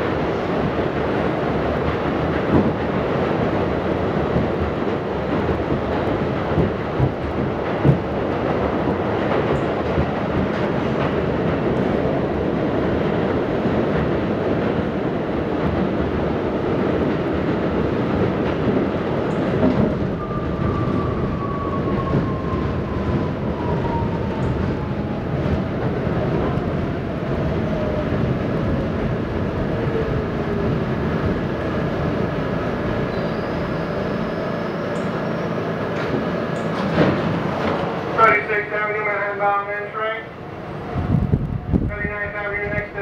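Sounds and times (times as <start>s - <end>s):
subway train rumbling: 0.0s - 43.0s.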